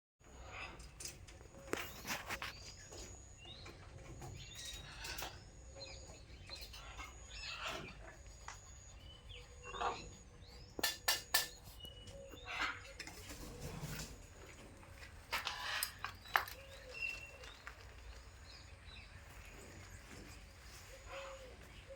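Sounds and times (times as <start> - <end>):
birds chirping: 0.2 - 21.9.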